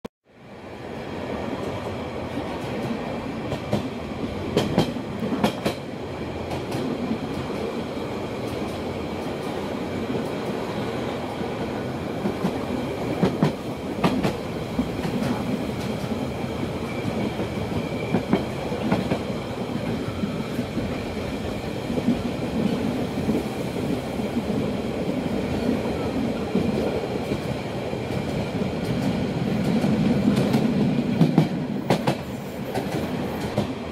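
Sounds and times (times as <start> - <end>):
train wheels rumbling on rail: 0.4 - 33.9.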